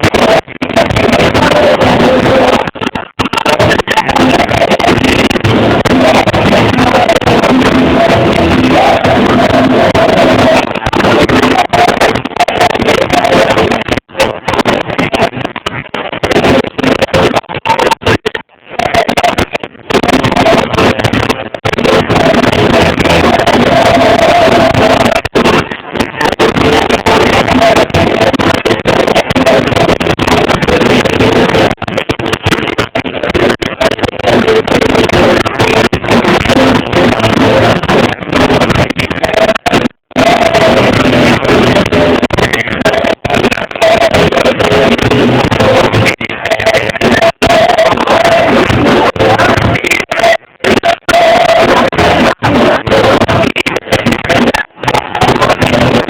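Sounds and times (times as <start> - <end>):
distorted live worship music: 0.0 - 56.0.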